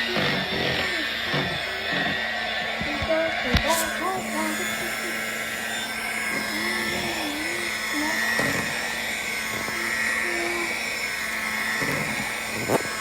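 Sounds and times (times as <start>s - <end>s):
electric kitchen mixer whining: 0.0s - 13.0s.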